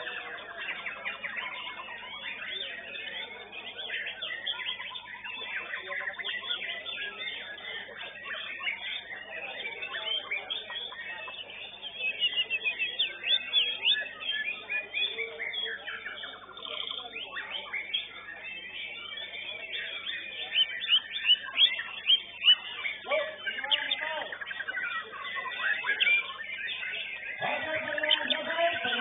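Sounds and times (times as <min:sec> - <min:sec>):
songbirds singing in chorus: 0:00.0 - 0:29.0.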